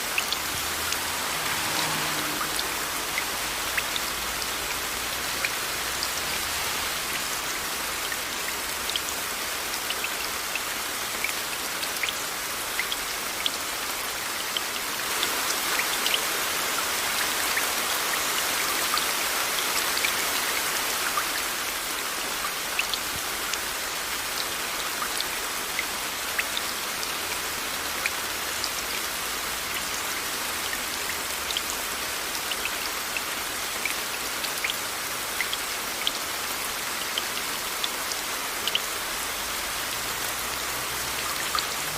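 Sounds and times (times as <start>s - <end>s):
rain drops ticking on a surface: 0.0s - 41.9s.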